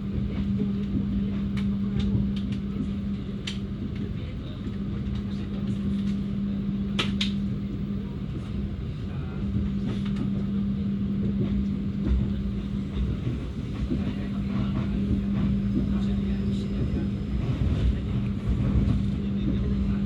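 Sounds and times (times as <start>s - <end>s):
constant hum: 0.0s - 20.0s
train rumble: 0.0s - 20.0s.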